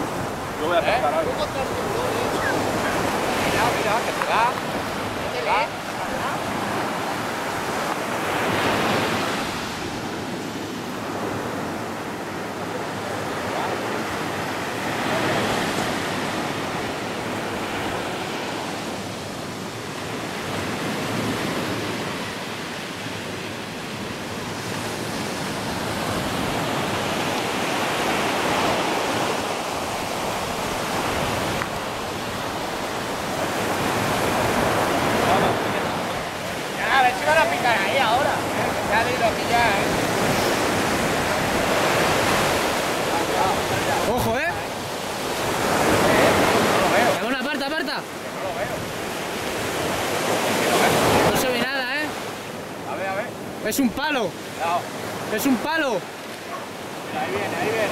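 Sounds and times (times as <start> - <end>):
surf breaking on beach: 0.0 - 57.9.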